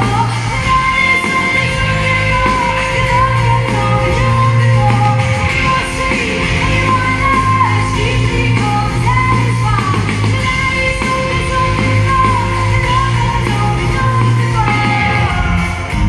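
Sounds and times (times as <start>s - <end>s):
electric guitar: 0.0s - 16.0s
woman singing rock song: 0.0s - 16.0s.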